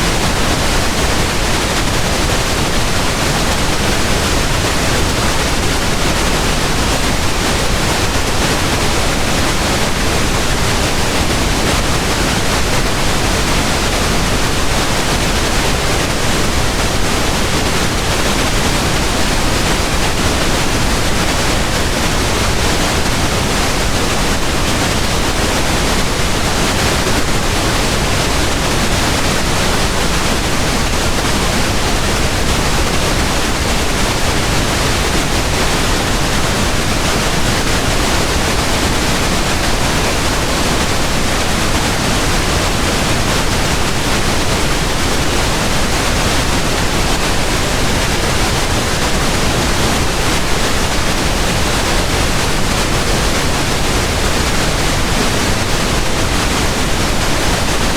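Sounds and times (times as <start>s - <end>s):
pink noise hiss: 0.0s - 57.9s.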